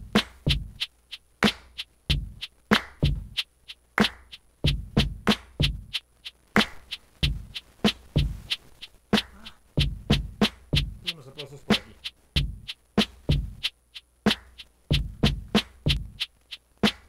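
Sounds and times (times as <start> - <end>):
looped percussion beat: 0.0 - 17.0.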